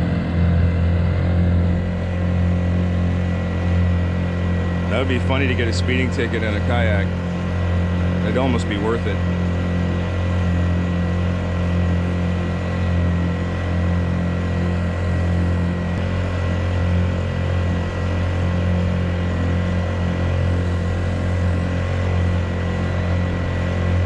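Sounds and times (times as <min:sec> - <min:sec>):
outboard motor droning: 0:00.0 - 0:24.0.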